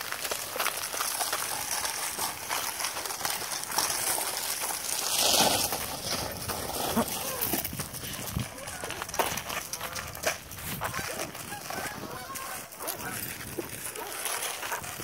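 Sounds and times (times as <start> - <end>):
footsteps crunching on snow: 0.0 - 15.0
snowboard scraping on icy snow: 0.0 - 15.0.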